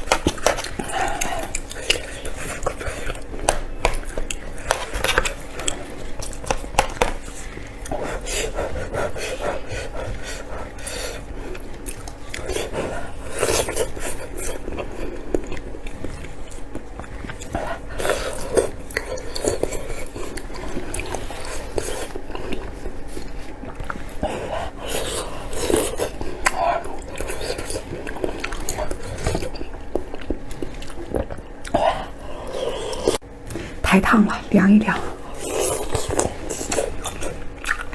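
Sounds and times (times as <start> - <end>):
biting and chewing: 0.0 - 33.6, 35.0 - 37.9.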